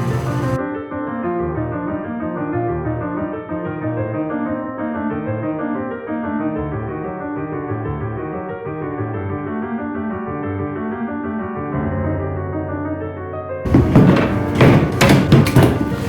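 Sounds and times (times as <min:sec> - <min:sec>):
piano music with bass line: 0:00.0 - 0:16.0.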